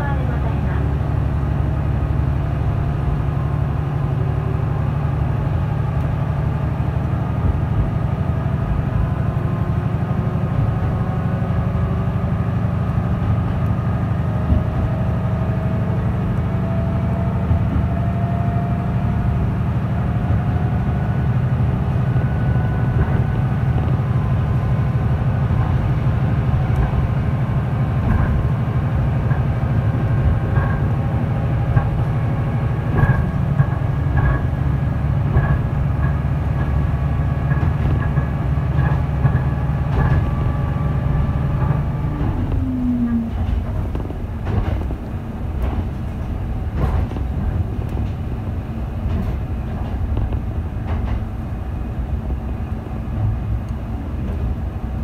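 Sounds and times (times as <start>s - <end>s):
railcar engine and wheels drone: 0.0s - 55.0s.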